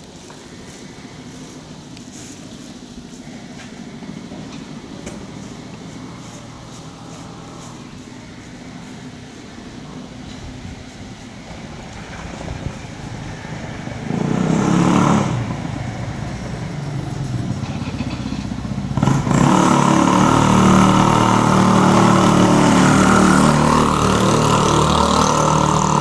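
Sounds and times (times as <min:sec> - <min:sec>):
vehicle engine running close: 0:00.0 - 0:26.0.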